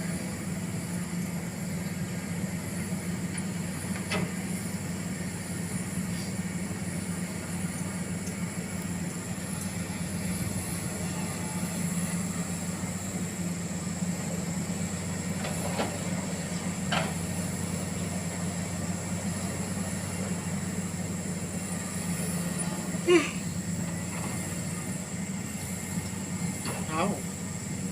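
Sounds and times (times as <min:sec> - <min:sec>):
heavy machinery engine droning: 0:00.0 - 0:27.9.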